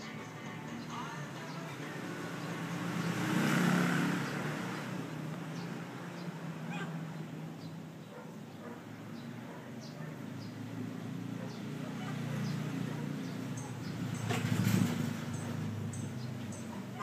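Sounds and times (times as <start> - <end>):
outdoor background noise: 0.0 - 17.0
vehicle passing: 0.0 - 17.0.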